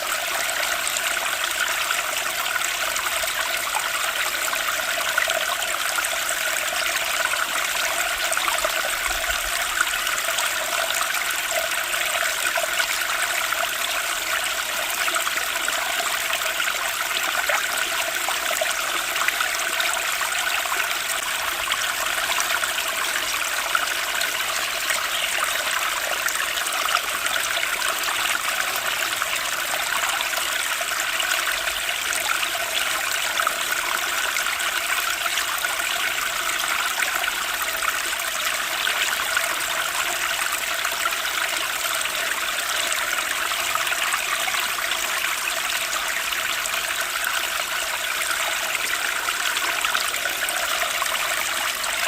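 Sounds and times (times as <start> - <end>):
flowing water: 0.0 - 52.0.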